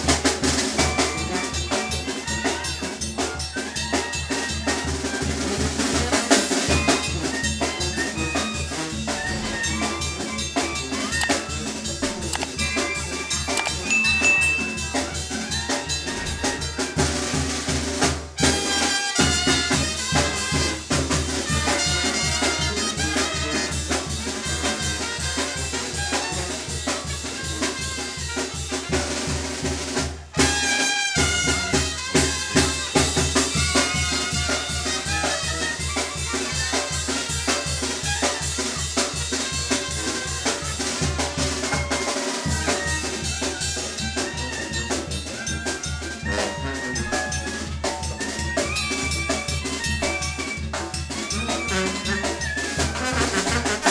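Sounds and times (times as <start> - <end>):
brass band playing dance music: 0.0 - 53.9.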